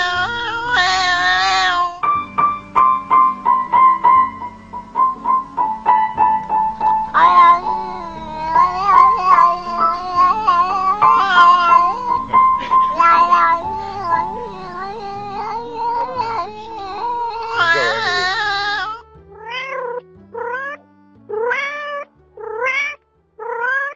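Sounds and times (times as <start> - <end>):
cat yowling: 0.0 - 2.0, 6.8 - 23.9
piano notes: 0.0 - 22.4.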